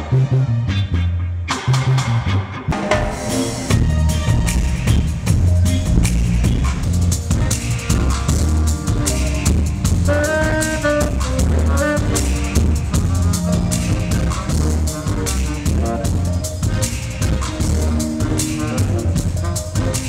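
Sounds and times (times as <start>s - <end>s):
deep bass line: 0.0s - 20.0s
drum kit and percussion: 1.5s - 20.0s.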